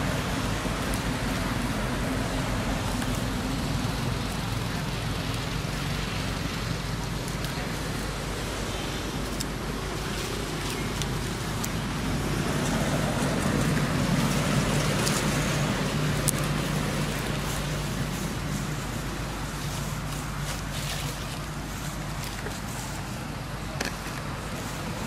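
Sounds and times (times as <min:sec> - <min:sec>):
outdoor background rumble: 0:00.0 - 0:25.0.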